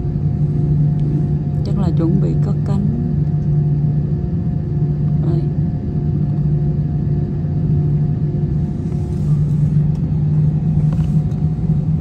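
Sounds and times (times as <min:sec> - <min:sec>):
airliner cabin engine hum: 0:00.0 - 0:12.0.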